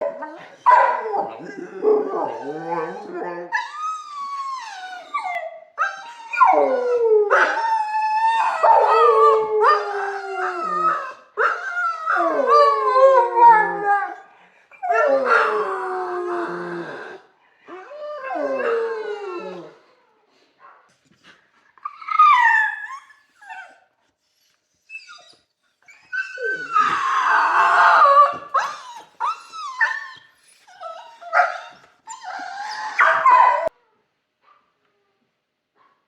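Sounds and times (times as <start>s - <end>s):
dog howling and whining: 0.0s - 19.9s, 21.8s - 23.8s, 24.4s - 33.8s.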